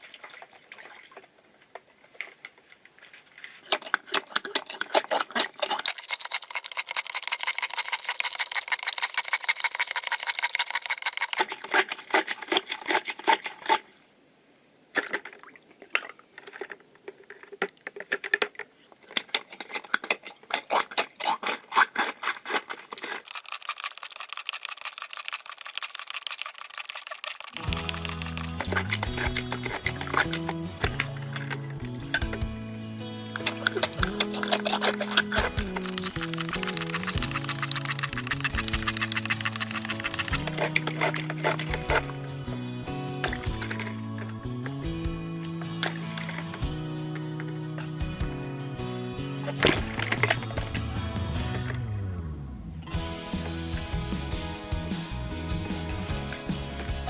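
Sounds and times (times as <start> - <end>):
water splashing and trickling: 0.0 - 14.0, 14.9 - 48.0, 49.4 - 51.9.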